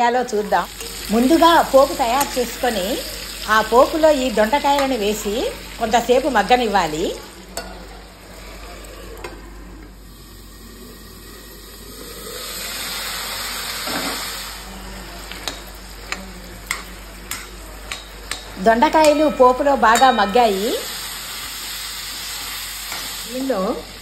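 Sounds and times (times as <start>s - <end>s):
oil sizzling: 0.0s - 24.0s.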